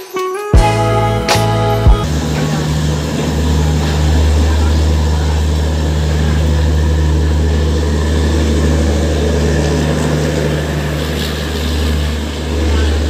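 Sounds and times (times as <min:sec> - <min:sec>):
passenger train rolling past: 0:00.0 - 0:13.0.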